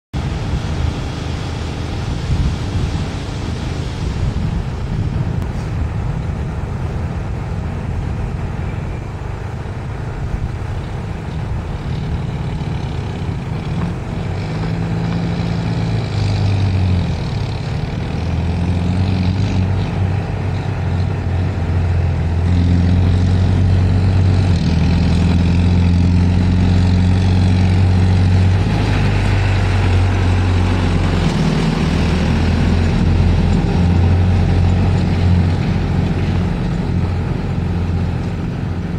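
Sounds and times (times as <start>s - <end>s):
tractor diesel engine running: 0.1s - 38.9s.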